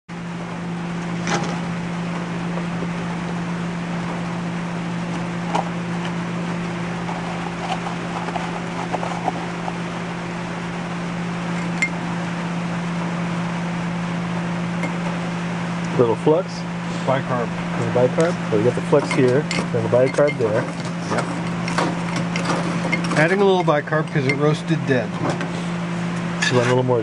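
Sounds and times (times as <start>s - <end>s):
low machine hum: 0.1s - 27.0s.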